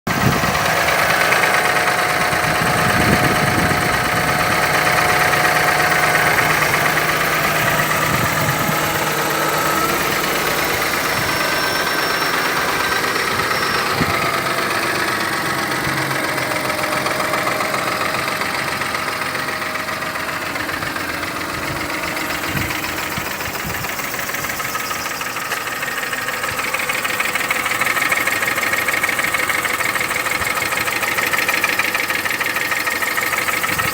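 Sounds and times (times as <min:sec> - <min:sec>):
car engine idling with knocking: 0:00.1 - 0:33.9.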